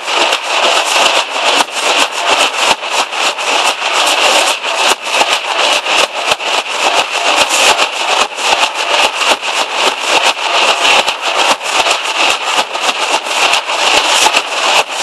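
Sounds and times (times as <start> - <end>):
dhol drums beating fast rhythm: 0.0 - 15.0.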